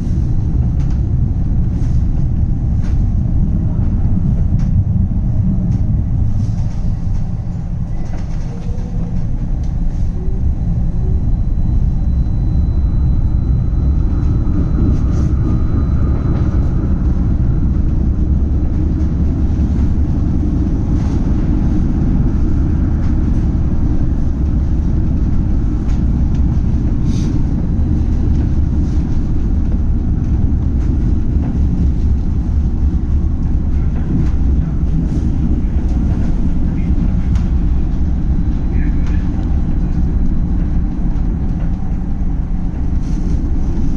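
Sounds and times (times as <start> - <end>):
tram rumbling on track: 0.0 - 43.9.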